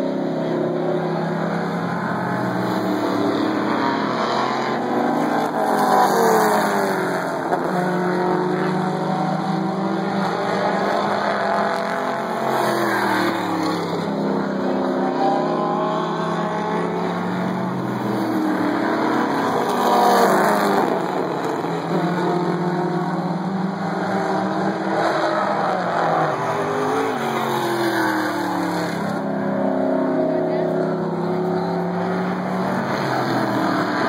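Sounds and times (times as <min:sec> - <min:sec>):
race car engines passing: 0:00.0 - 0:34.0.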